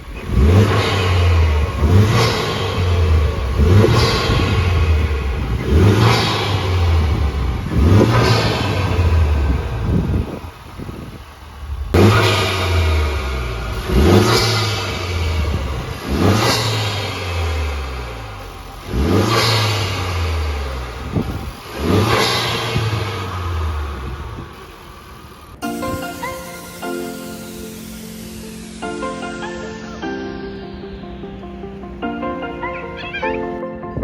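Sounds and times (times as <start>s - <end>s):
car engine revving: 0.0s - 33.2s
intake rush: 0.0s - 33.6s.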